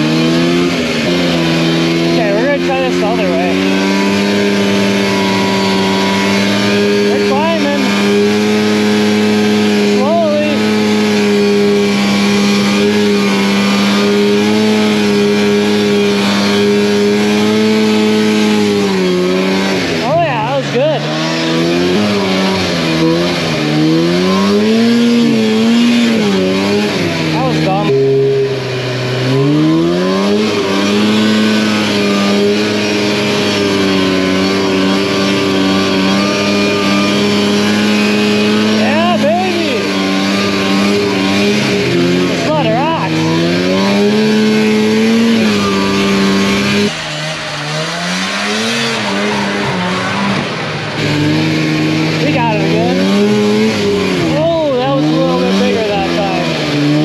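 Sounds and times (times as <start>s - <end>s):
snowmobile engine under throttle: 0.0s - 57.0s.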